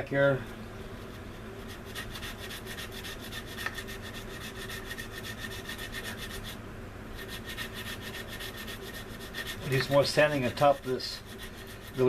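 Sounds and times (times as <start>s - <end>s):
sanding stick rubbing on plastic: 1.0s - 6.6s, 7.2s - 12.0s.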